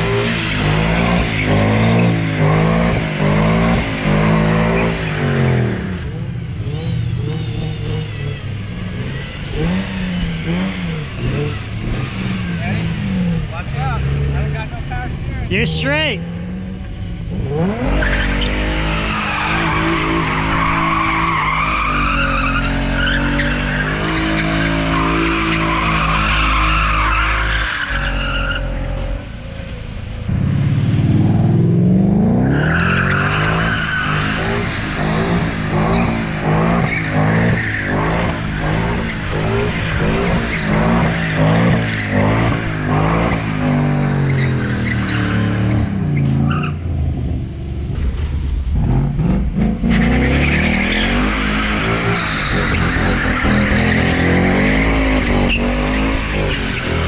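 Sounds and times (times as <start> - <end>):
car engine revving: 0.0 - 57.0
tires squealing: 0.0 - 57.0.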